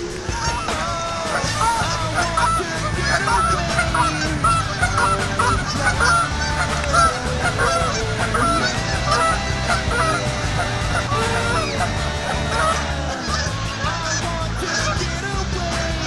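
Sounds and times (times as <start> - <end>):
geese honking: 0.0 - 15.1.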